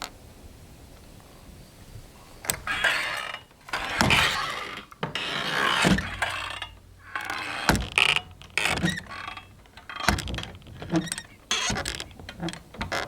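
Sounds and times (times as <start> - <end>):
saloon doors creaking: 2.4 - 13.0.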